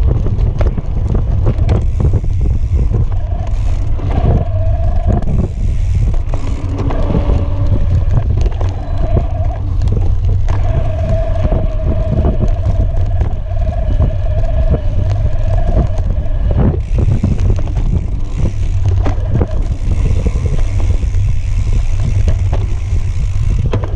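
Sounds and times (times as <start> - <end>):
bike knocks and rattles: 0.0 - 23.9
wind rumble on microphone: 0.0 - 23.9
motor whine: 1.3 - 23.9.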